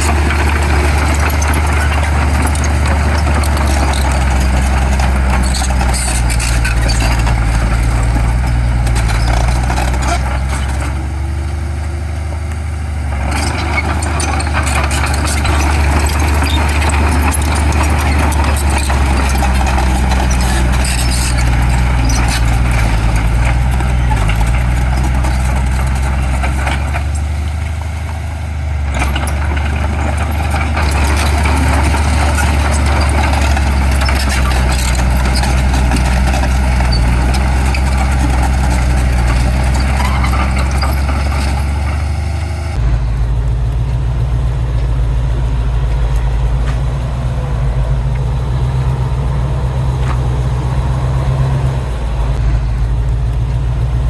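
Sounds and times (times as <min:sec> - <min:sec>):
gritty machine clatter: 0:00.0 - 0:11.6, 0:12.3 - 0:54.0
diesel engine droning: 0:00.0 - 0:54.0.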